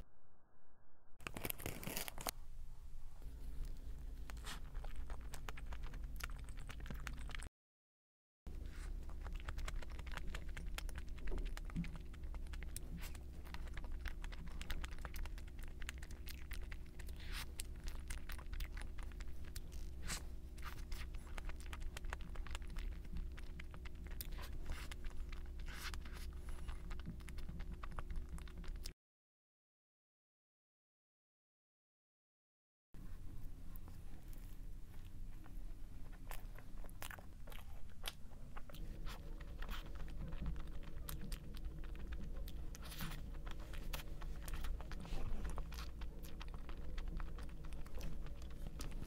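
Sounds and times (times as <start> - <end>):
low steady hum: 0.0 - 7.5, 8.5 - 28.9, 33.0 - 49.0.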